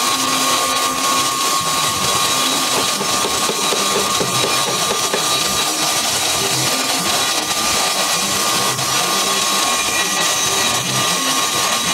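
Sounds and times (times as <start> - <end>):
woodworking machine whining: 0.0 - 11.9.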